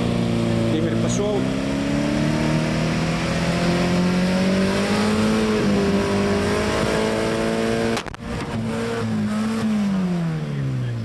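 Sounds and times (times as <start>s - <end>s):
car engine revving high: 0.0s - 11.0s.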